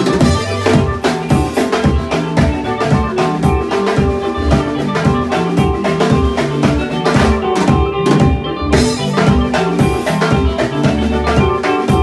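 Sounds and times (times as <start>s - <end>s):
drum kit beat: 0.0s - 12.0s
guitar lines: 0.0s - 12.0s.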